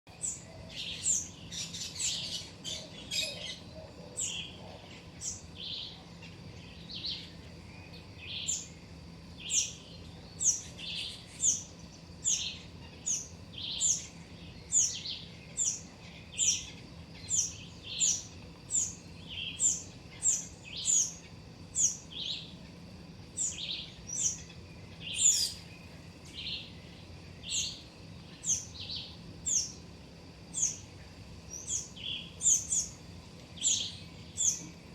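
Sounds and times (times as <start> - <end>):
small bird chirping: 0.1 - 29.9, 30.5 - 34.9.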